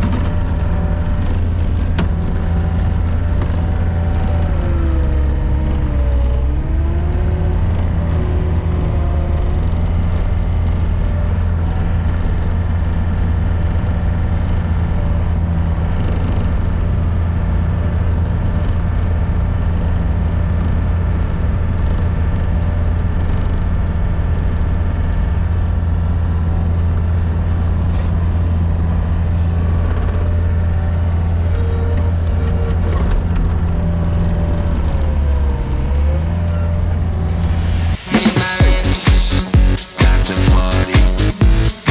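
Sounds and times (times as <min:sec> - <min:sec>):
skid steer engine droning: 0:00.0 - 0:38.6.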